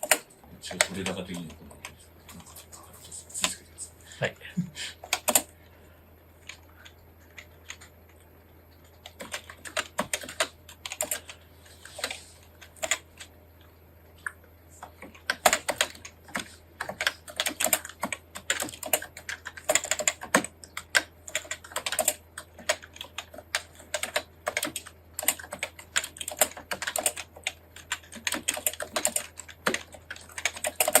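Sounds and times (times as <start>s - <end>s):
computer keyboard typing: 0.0s - 3.7s, 4.9s - 5.6s, 6.4s - 13.4s, 14.2s - 31.0s.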